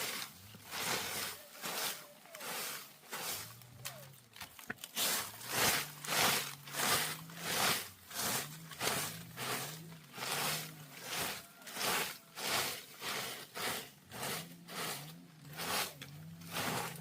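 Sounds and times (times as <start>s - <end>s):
rasping strokes: 0.0s - 17.0s.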